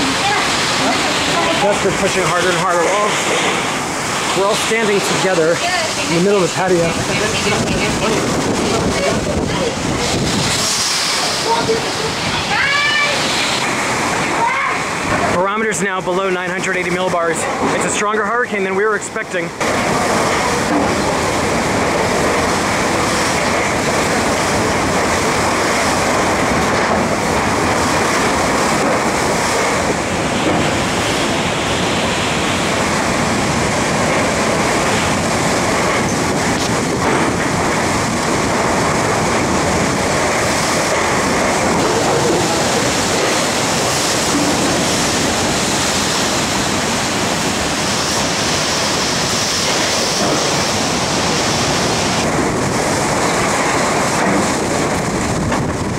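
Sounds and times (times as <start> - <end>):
strong wind rushing: 0.0 - 55.9.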